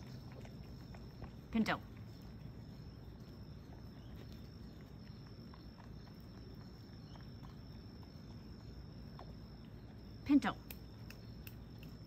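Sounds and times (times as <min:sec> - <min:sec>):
insect drone: 0:00.0 - 0:12.0.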